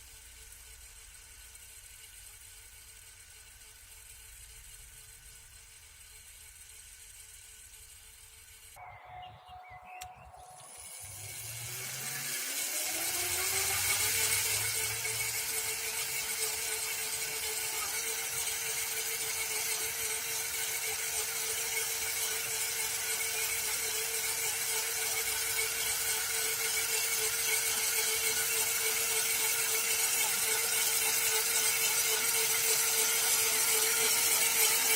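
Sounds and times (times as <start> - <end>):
electric cultivator motor whining: 0.0 - 34.9.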